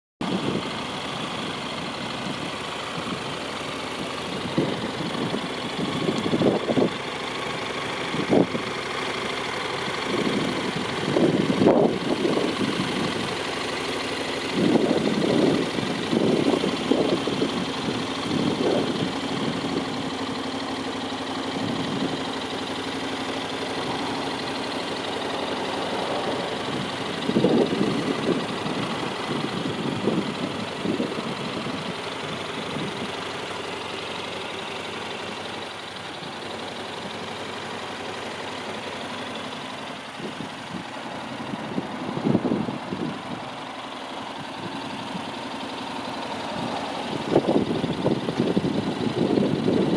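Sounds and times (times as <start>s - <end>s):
motorcycle engine idling: 0.2s - 49.9s.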